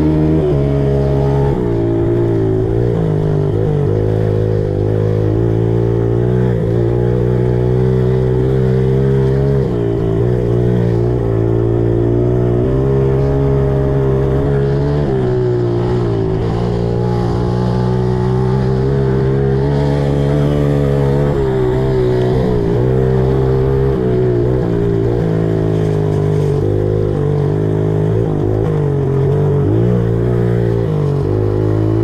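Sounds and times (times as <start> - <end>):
pit bike engine revving: 0.0 - 32.0.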